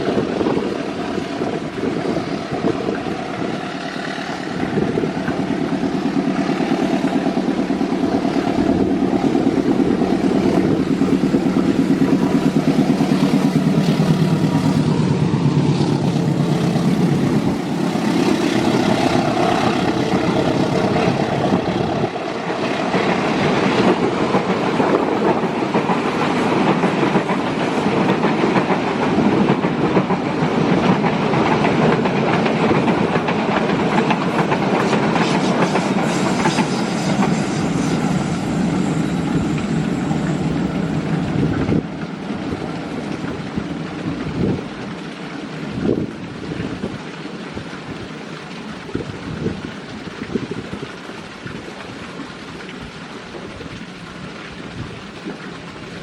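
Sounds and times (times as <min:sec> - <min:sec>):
train engine hum: 0:00.0 - 0:56.0
train wheels clattering on rails: 0:00.0 - 0:56.0.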